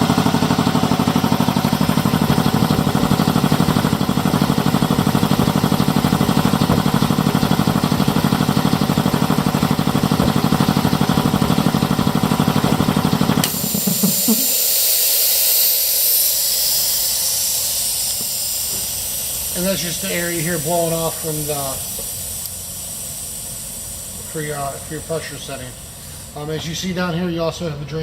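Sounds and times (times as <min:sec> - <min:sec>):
air compressor running: 0:00.0 - 0:27.9
air blowing off hiss: 0:01.2 - 0:27.3.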